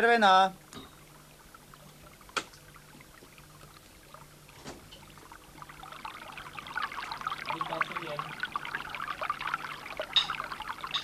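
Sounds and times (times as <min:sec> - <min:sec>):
water running into sink: 0:00.0 - 0:11.0.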